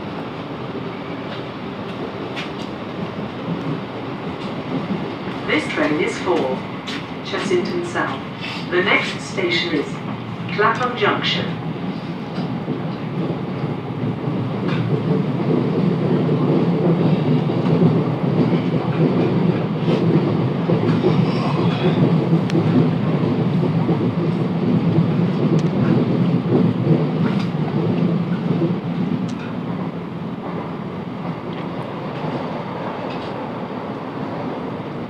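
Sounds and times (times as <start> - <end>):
train wheels rumbling on track: 0.0 - 35.0.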